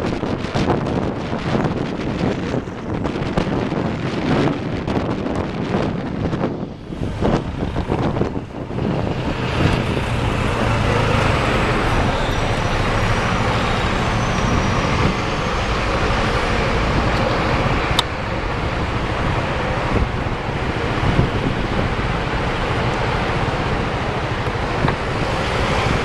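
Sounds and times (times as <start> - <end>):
bus passing close: 0.0 - 26.0
engine rumble and tyre noise: 0.0 - 26.0.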